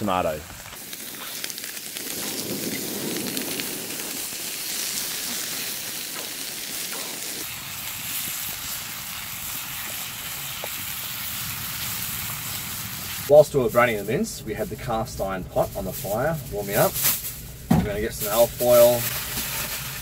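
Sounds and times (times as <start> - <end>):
sauce sizzling in a frying pan: 0.0 - 13.3, 17.2 - 20.0.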